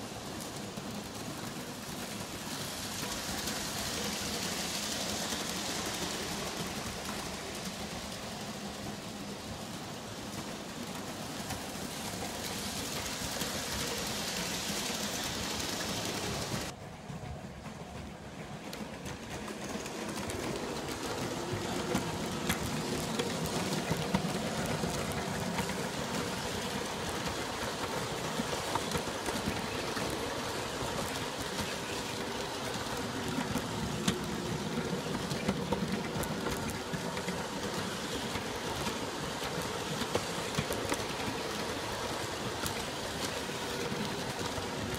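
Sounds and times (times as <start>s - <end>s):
wheels clicking on rails: 0.0s - 44.9s.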